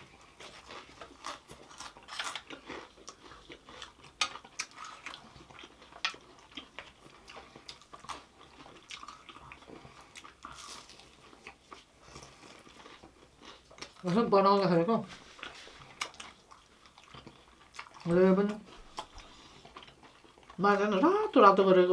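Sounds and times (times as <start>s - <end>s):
crunchy chewing: 0.0s - 14.2s, 15.2s - 20.6s.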